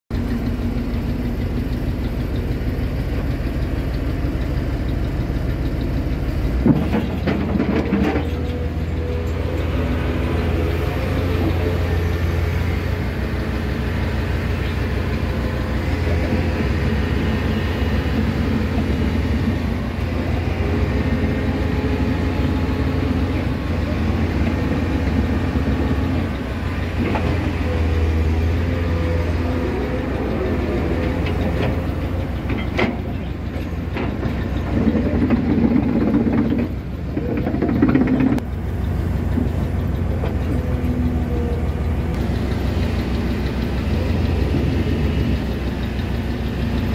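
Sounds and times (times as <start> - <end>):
heavy engine humming: 0.1 - 46.9.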